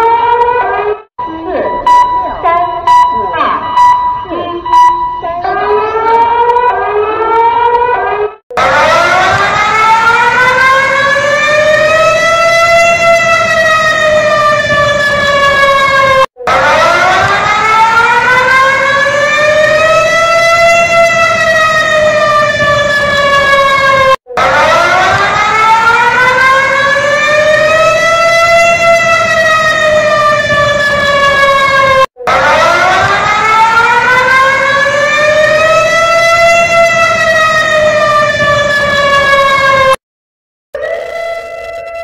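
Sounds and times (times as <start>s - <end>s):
emergency siren wailing: 0.0s - 40.0s, 40.8s - 42.0s.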